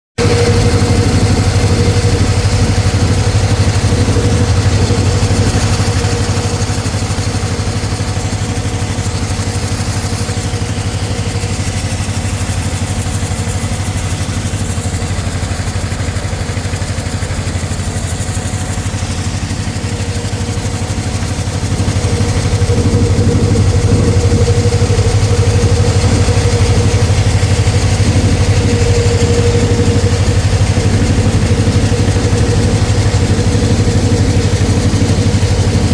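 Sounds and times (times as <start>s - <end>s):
concrete saw running: 0.2s - 35.9s.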